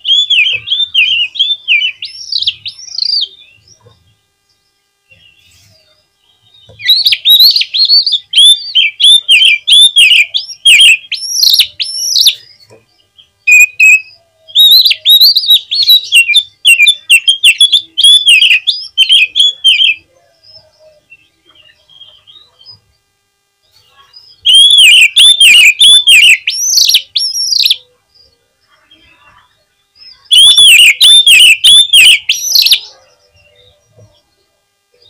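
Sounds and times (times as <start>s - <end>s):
bird singing whistled notes: 0.0s - 3.8s, 5.1s - 22.8s, 24.1s - 35.0s.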